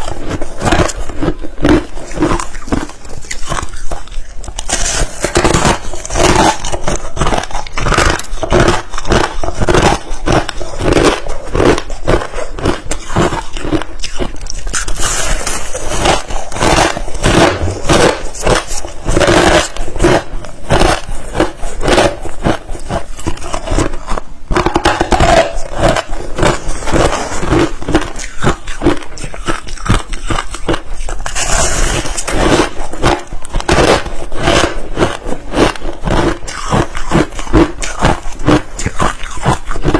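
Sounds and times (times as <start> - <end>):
ice crunched between teeth: 0.0 - 39.9.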